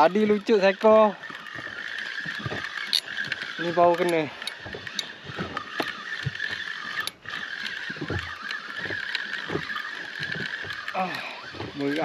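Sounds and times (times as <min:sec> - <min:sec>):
fishing reel gear whirring: 0:00.0 - 0:12.0.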